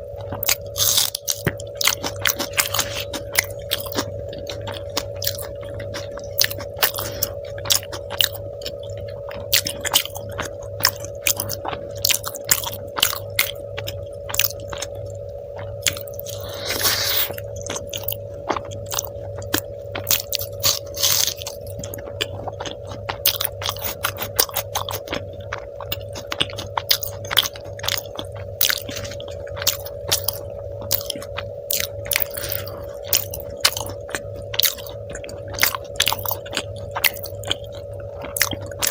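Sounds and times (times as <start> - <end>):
person chewing food: 0.0 - 38.9
steady low hum: 0.0 - 38.9.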